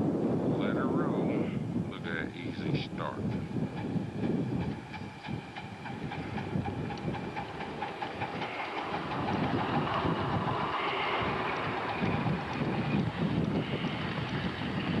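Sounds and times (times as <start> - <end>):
steady steam hiss: 1.1 - 15.0
steam locomotive exhaust chuffing: 3.0 - 15.0.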